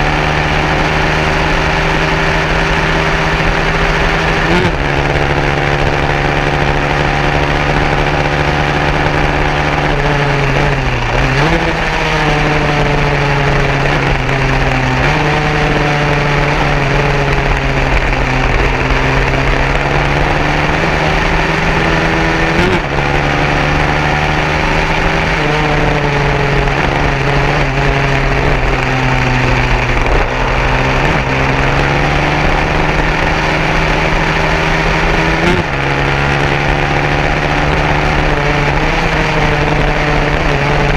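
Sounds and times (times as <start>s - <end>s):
racing motorcycle engines: 0.0s - 40.9s.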